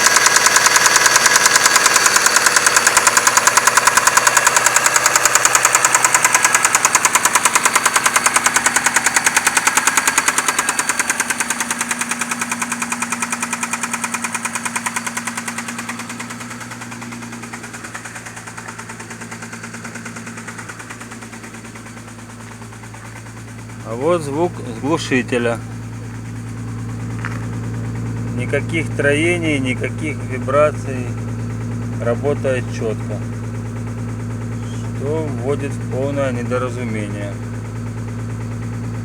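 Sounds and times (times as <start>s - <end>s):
car engine idling: 0.0s - 39.0s
fast regular engine knock: 0.0s - 39.0s.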